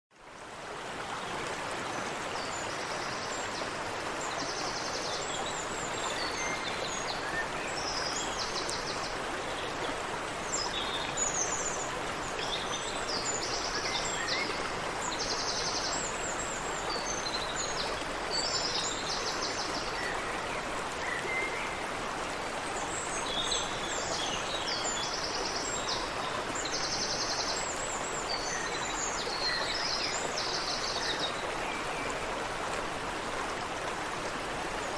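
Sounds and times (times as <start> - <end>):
creek water running over rocks: 0.1 - 34.9.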